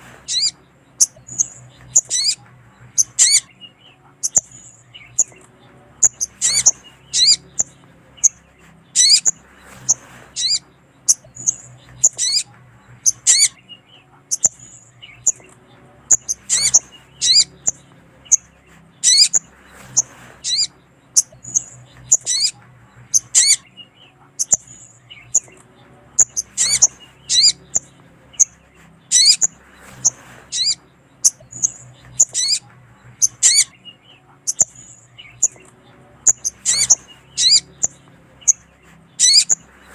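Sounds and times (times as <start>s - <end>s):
bird chirping and calling: 0.0s - 39.9s.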